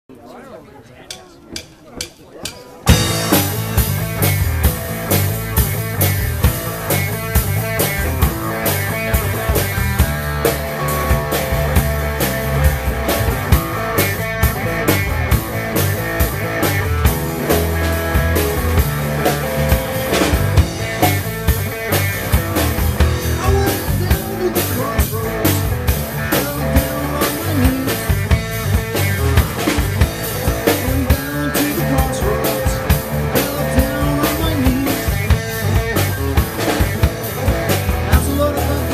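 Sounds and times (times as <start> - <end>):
drum kit beat: 1.1 - 38.9
bass guitar: 2.8 - 38.9
electric guitar: 2.8 - 38.9.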